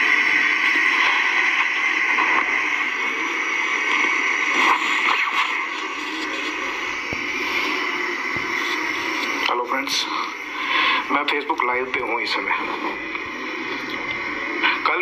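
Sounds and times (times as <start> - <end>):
static-like hiss: 0.0 - 15.0.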